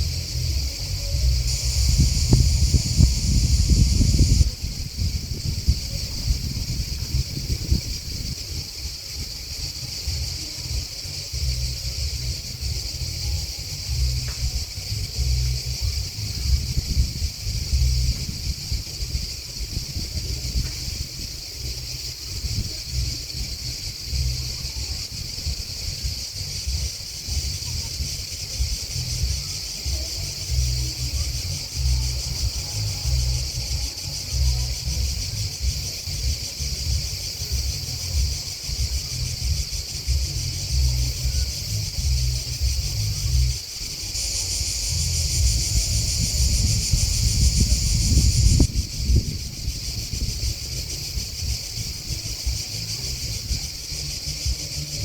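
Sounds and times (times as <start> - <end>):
grasshoppers and crickets chirping: 0.0 - 55.0
low uneven rumble: 0.0 - 55.0.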